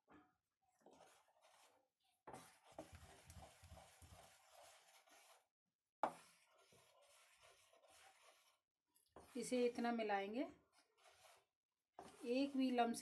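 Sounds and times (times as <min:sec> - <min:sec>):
batter stirred in a steel bowl: 0:00.5 - 0:13.0.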